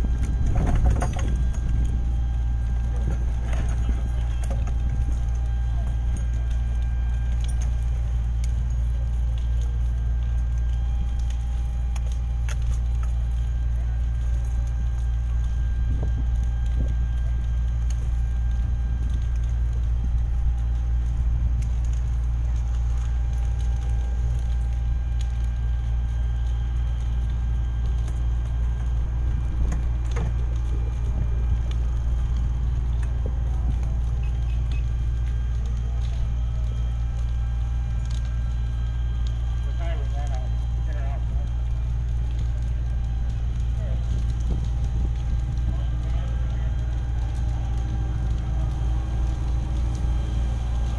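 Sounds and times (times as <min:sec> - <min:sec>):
diesel engines droning: 0:00.0 - 0:50.9
faint whining tones: 0:00.0 - 0:50.9.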